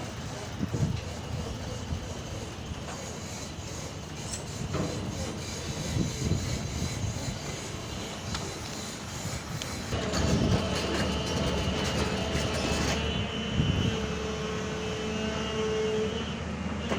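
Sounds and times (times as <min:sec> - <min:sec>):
excavator engine rumbling: 0:00.0 - 0:14.5.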